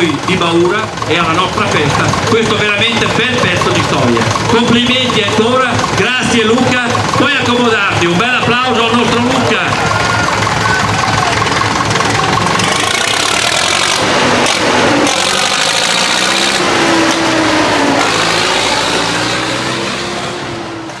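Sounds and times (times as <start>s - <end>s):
tractor diesel engine driving past: 0.0s - 21.0s.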